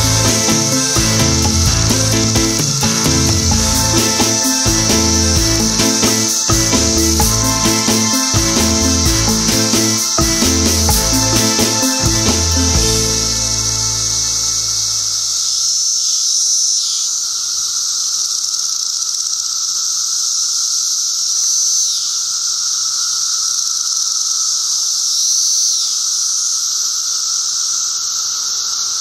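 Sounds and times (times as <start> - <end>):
cicadas droning: 0.0 - 29.0.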